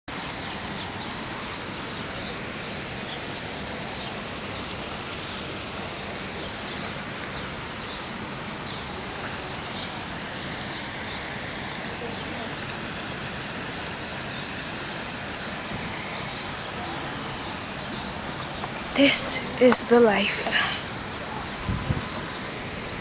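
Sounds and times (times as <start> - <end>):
small birds chirping: 0.1 - 23.0
steady background hiss: 0.1 - 23.0.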